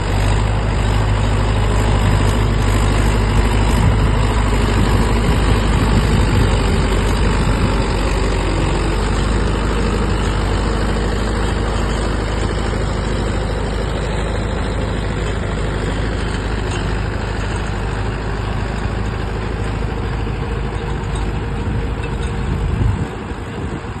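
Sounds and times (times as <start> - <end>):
tractor diesel engine humming: 0.0 - 24.0.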